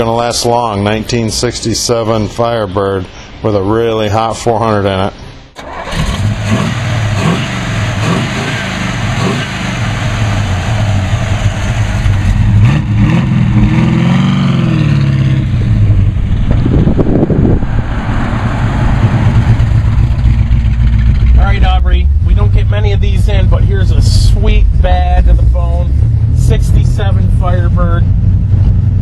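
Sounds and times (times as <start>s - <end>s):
car engine revving: 5.6s - 29.0s.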